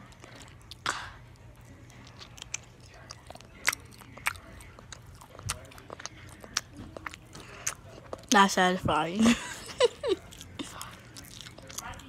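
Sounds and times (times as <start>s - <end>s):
girl biting and chewing: 0.0s - 8.4s, 10.2s - 12.0s.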